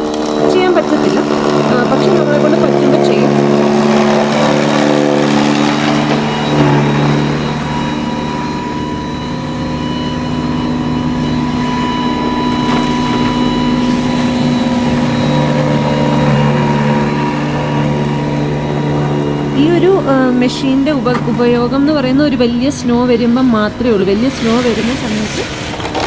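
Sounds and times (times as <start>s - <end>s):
electric snow blower running: 0.0s - 26.0s.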